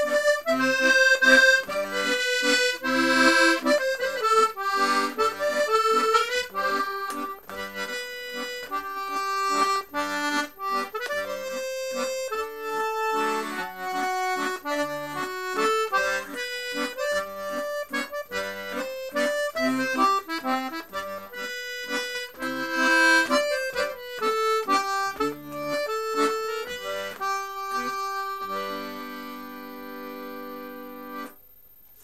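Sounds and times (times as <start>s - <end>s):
accordion playing waltz: 0.0s - 31.4s.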